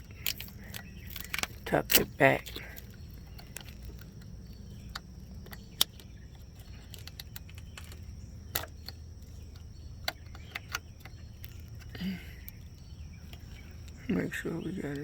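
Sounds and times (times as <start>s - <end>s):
plastic and metal parts clicking: 0.0s - 14.1s
steady low hum: 0.0s - 15.0s.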